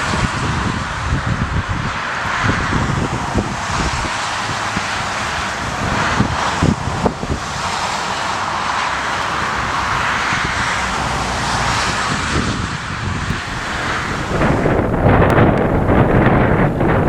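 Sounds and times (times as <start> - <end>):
jet engines rushing: 0.0 - 17.0
wind blowing on microphone: 0.0 - 17.0.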